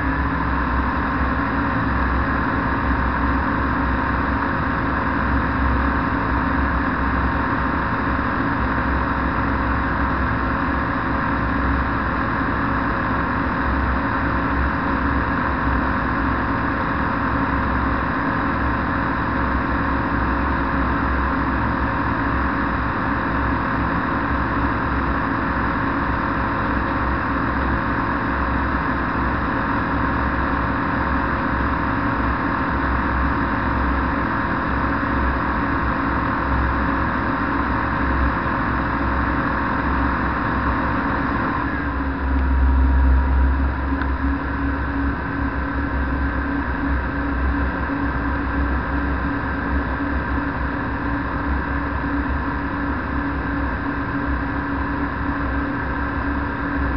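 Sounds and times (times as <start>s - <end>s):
microlight engine and propeller: 0.0s - 56.9s.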